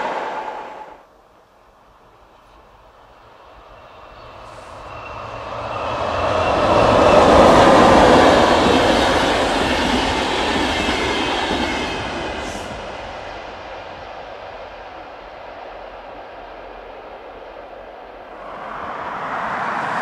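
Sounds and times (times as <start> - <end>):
train wheels on rails: 2.3 - 20.0.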